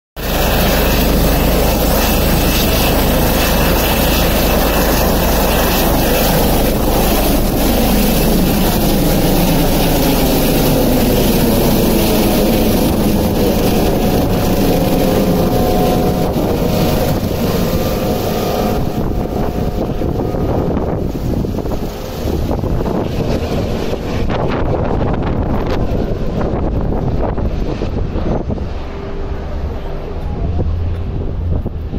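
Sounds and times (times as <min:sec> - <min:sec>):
helicopter turbine and rotor noise: 0:00.2 - 0:31.9.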